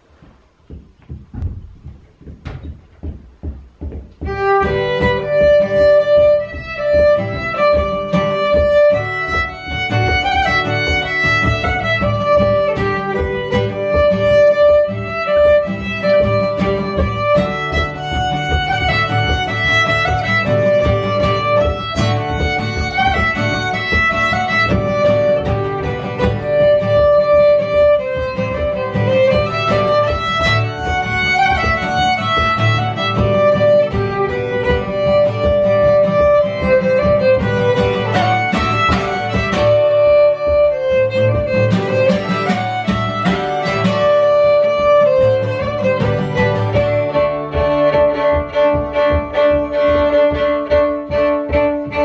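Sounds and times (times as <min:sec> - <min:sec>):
acoustic guitar accompaniment: 0:00.0 - 0:52.0
fiddle melody: 0:00.0 - 0:52.0.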